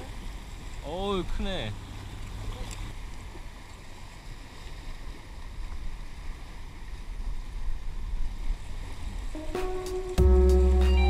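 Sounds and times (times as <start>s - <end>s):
choppy water current: 0.0s - 11.0s.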